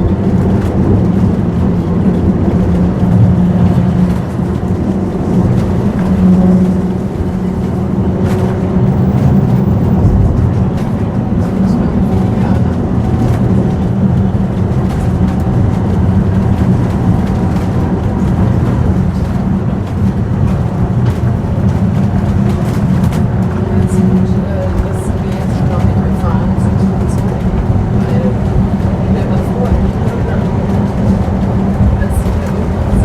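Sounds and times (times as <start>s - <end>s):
tram rumbling on track: 0.0s - 33.0s.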